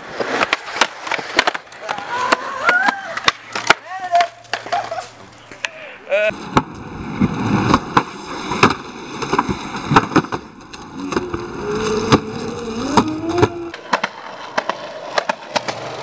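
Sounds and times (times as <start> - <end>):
skateboard clacking on concrete: 0.0 - 5.8, 7.6 - 16.0
skateboard wheels rolling: 0.0 - 16.0.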